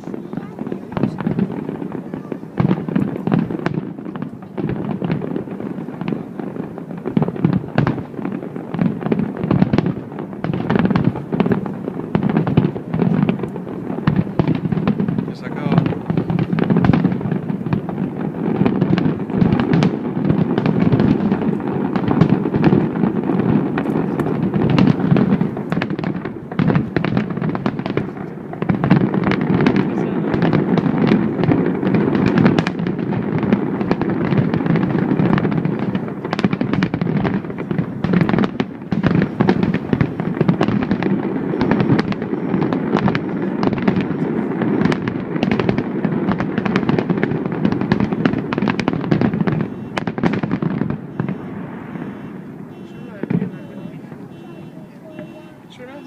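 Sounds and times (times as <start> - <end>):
distant fireworks bangs and crackles: 0.0 - 56.0.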